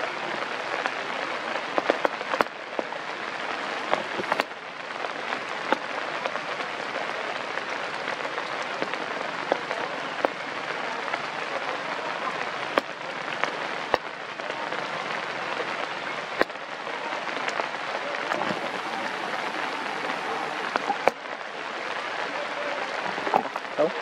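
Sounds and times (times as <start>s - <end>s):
rain falling on leaves: 0.0s - 24.0s
large water drops landing: 1.6s - 24.0s.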